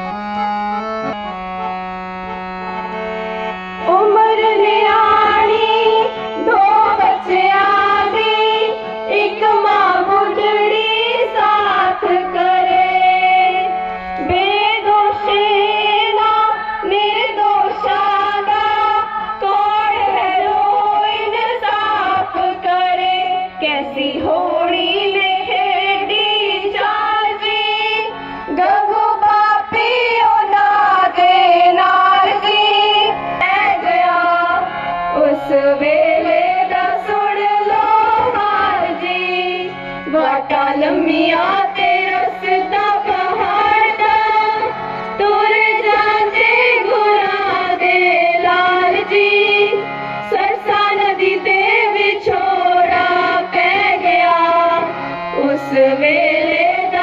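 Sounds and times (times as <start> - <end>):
harmonium holding notes: 0.0 - 57.0
girls singing devotional song: 3.9 - 57.0.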